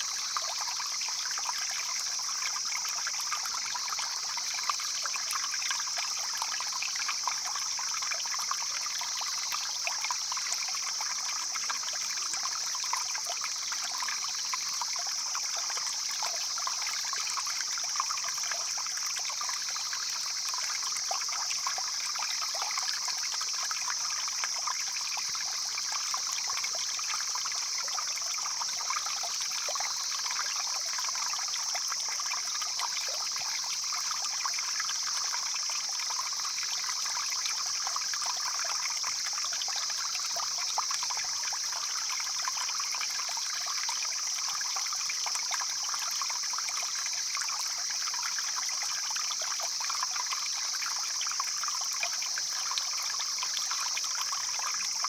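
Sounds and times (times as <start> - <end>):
stream trickling: 0.0 - 55.0.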